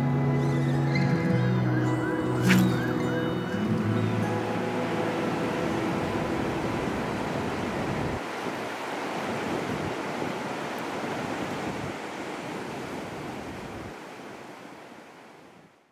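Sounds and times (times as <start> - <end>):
ocean waves on sandy beach: 2.2 - 15.9.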